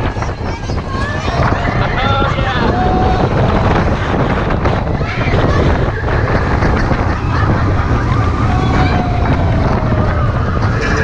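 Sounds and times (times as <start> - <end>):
roller coaster rumbling on track: 0.0 - 11.0
wind buffeting microphone: 0.0 - 11.0
riders whooping: 0.1 - 11.0.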